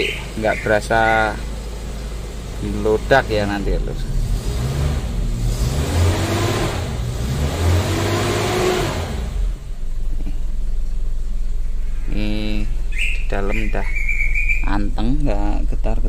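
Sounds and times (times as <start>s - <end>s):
motorcycle engine revving and idling: 0.0s - 13.9s.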